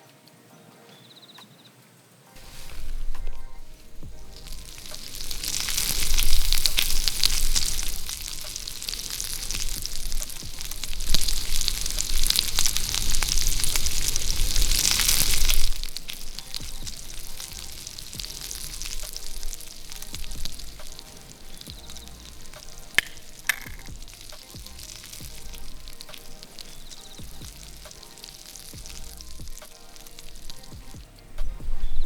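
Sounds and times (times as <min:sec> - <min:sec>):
meat sizzling and crackling: 0:02.4 - 0:32.0.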